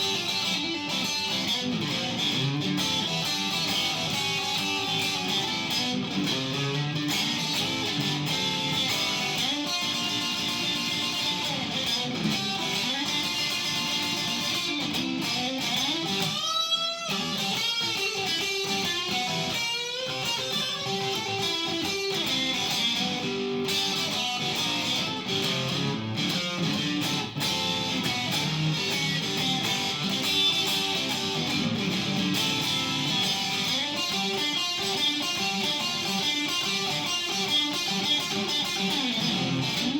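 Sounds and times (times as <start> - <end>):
solo electric guitar blues: 0.0 - 39.9.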